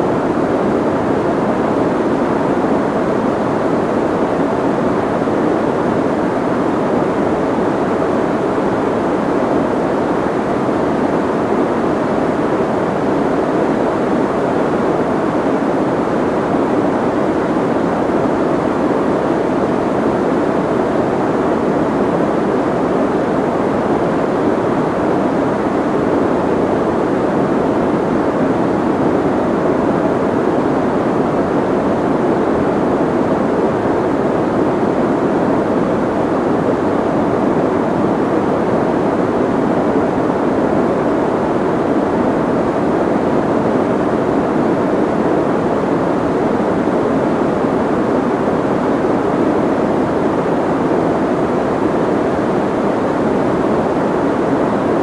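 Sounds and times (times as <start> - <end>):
soft muffled white noise: 0.0 - 55.0.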